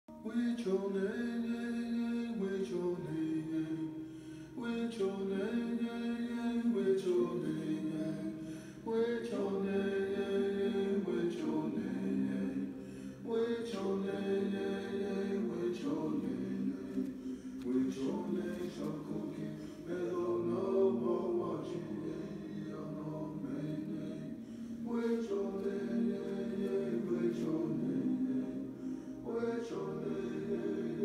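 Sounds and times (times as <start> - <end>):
unaccompanied chant-like singing: 0.1 - 31.0.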